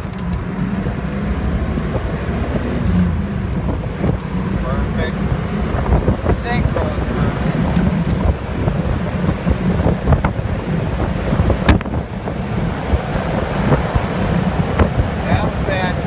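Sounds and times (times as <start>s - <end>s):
car engine running: 0.0s - 16.0s
wind rushing over microphone: 0.0s - 16.0s.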